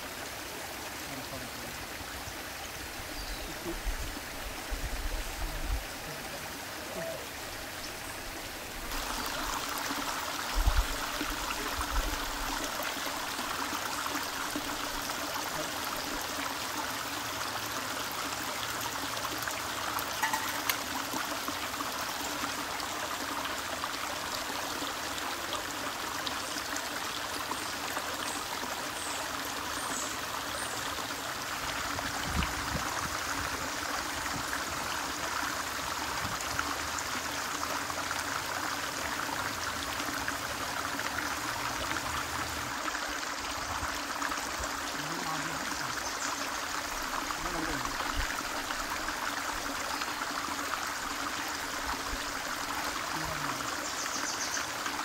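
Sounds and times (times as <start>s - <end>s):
stream running over rock: 0.0s - 55.0s.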